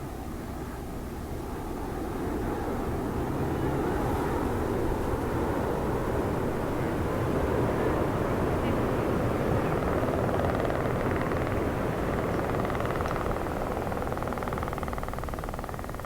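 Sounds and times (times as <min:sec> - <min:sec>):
jet engines in flight: 0:01.9 - 0:14.8.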